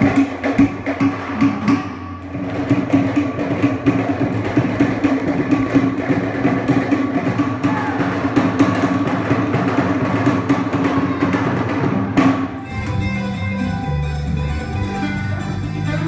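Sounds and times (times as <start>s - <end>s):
fast driving drum beats: 0.0s - 16.0s.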